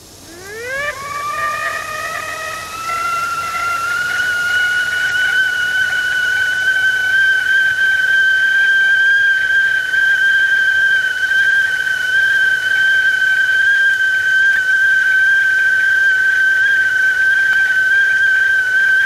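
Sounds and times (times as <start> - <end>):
tea kettle whistling: 0.0 - 19.0.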